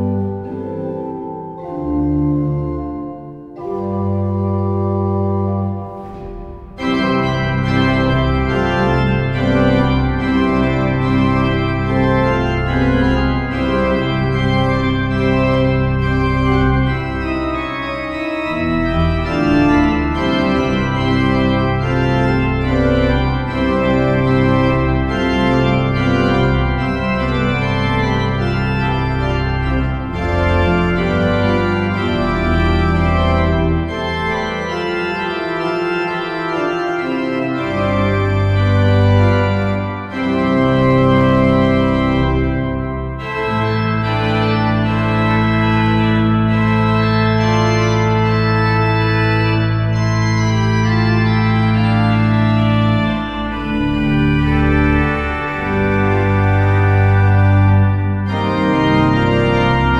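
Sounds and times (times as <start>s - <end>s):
pipe organ chords: 0.0s - 59.9s.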